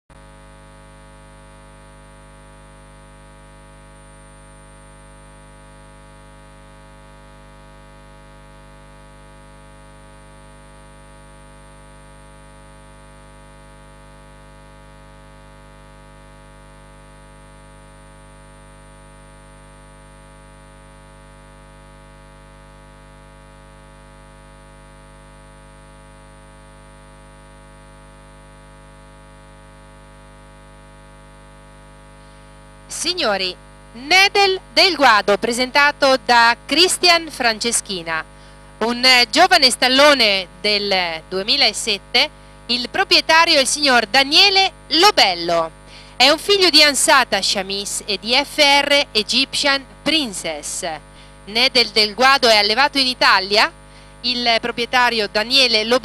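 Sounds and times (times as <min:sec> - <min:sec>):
electrical mains hum: 0:00.2 - 0:56.0.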